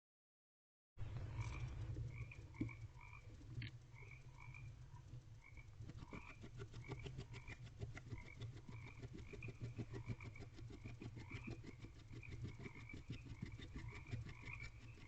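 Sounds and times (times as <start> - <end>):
steady low hum: 1.0 - 15.0
frog chorus: 1.1 - 15.0.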